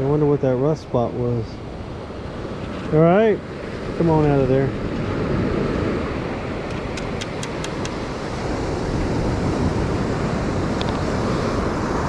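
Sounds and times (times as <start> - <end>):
surf washing: 0.0 - 12.0
wind on microphone: 0.0 - 12.0.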